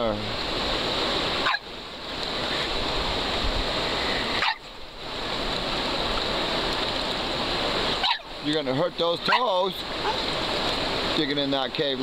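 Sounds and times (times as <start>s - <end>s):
river water over rocks: 0.0s - 12.0s.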